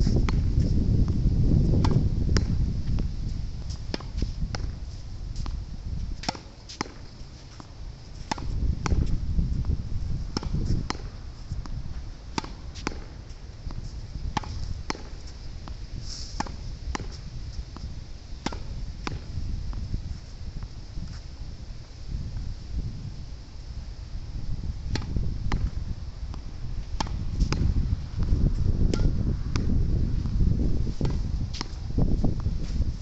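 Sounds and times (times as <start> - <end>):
wind rumble on microphone: 0.0 - 33.0.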